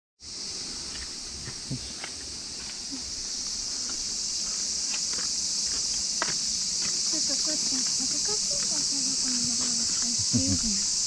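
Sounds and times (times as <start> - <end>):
insect chorus drone: 0.2 - 11.0.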